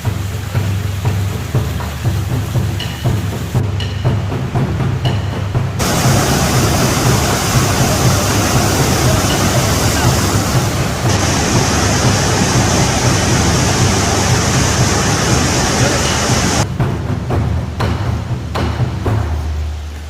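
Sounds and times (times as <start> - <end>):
rushing water roar: 0.0 - 20.0.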